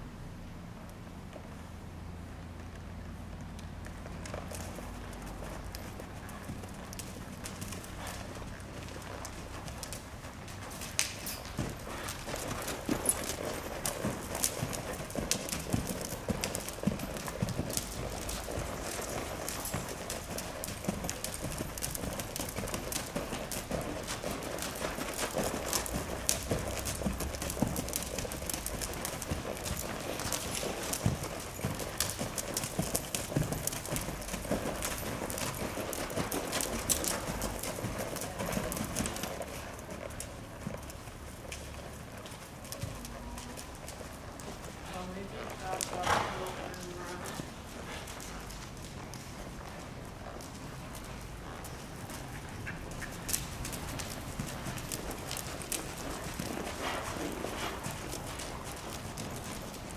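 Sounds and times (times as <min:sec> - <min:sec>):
horse hoofbeats on sand: 0:01.3 - 0:59.9.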